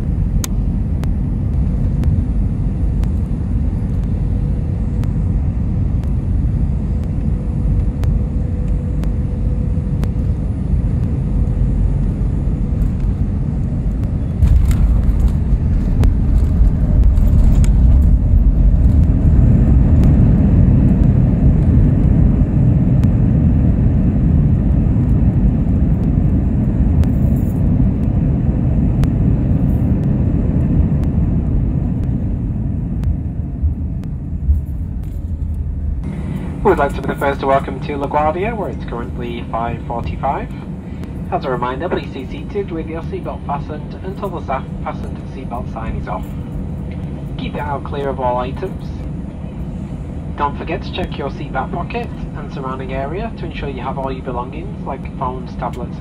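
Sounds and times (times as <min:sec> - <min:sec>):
aircraft cabin rumble: 0:00.0 - 0:56.0
engines reverse thrust rumble: 0:00.0 - 0:56.0.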